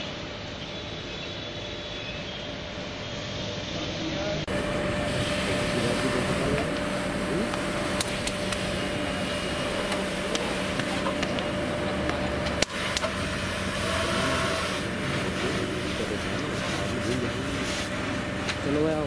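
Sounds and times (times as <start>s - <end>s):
motor running steadily: 0.0s - 19.0s
rushing background noise: 0.0s - 19.0s.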